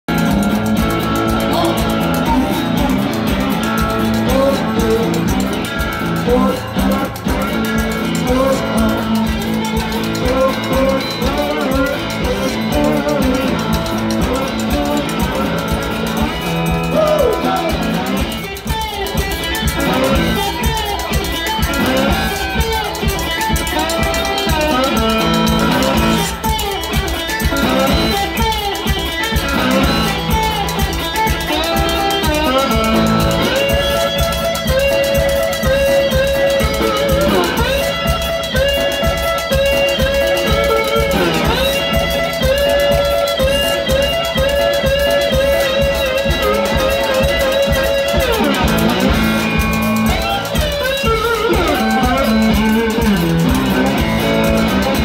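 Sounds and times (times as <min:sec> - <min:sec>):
live band with guitar: 0:00.0 - 0:55.0.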